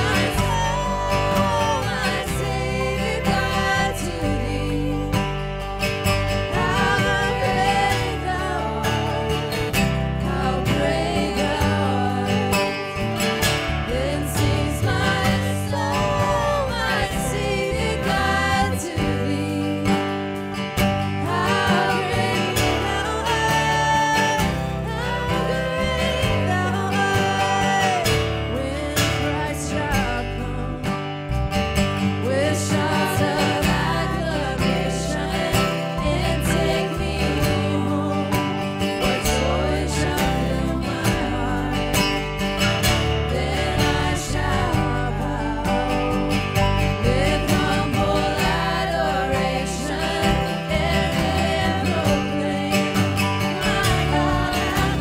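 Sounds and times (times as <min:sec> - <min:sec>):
person singing: 0:00.0 - 0:20.4, 0:21.2 - 0:31.2, 0:32.1 - 0:55.0
guitar-led band playing: 0:00.0 - 0:55.0.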